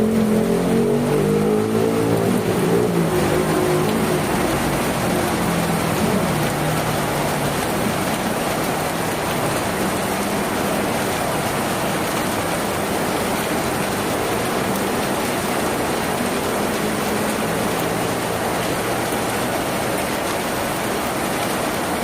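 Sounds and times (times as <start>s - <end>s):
rain on a tin roof: 0.0s - 22.0s.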